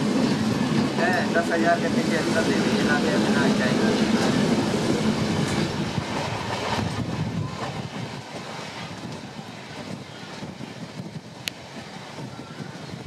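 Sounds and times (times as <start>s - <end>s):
rail clicks: 0.0s - 13.0s
train wheels rumbling on rails: 0.0s - 13.0s.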